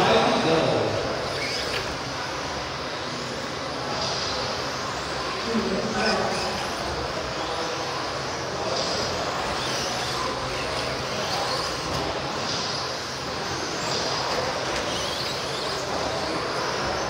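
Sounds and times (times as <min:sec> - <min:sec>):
large hall noise: 0:00.0 - 0:17.0.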